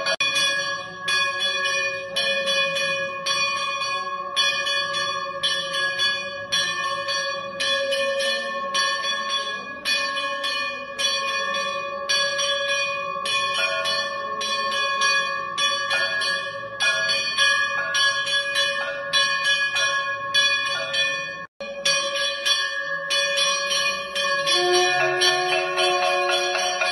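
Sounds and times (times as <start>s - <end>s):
temple bells ringing: 0.0s - 26.9s.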